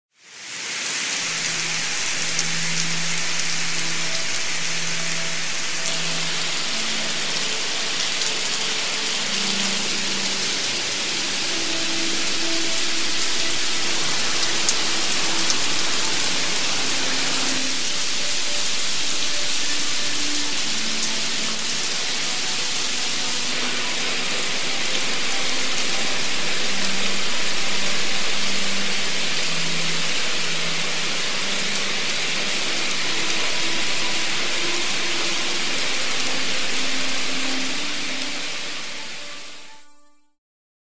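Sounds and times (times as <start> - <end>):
heavy rain on pavement: 0.2 - 39.7.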